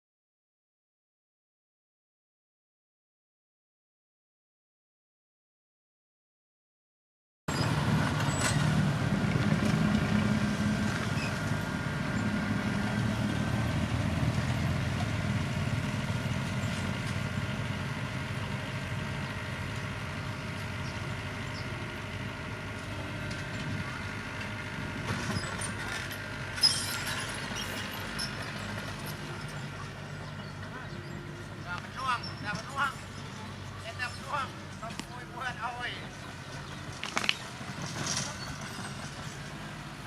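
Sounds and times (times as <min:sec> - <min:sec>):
diesel truck engine running: 0:07.5 - 0:40.0.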